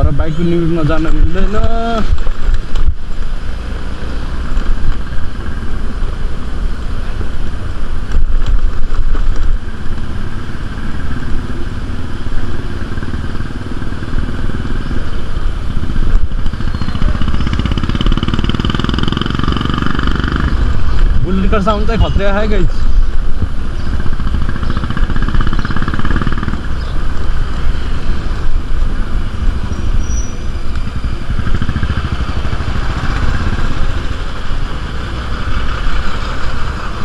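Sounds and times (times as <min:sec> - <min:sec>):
motorbike engine running: 0:00.0 - 0:37.0
wind rumbling on microphone: 0:00.0 - 0:37.0.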